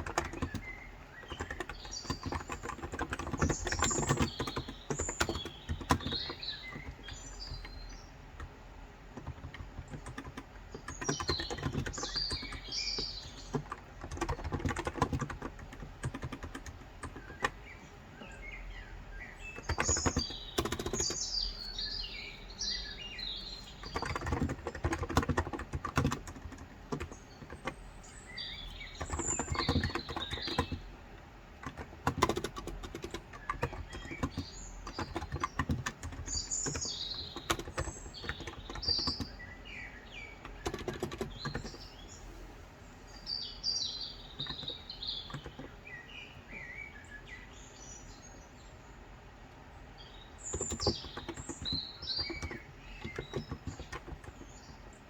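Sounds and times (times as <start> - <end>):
keyboard typing: 0.0 - 42.1, 44.2 - 45.8, 50.5 - 55.0
small birds chirping: 0.0 - 55.0.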